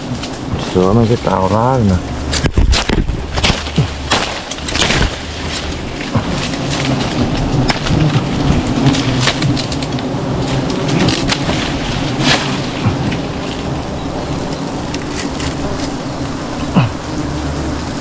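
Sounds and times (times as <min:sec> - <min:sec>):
leaves rustling and crackling: 0:00.0 - 0:18.0
low rumble: 0:00.0 - 0:18.0.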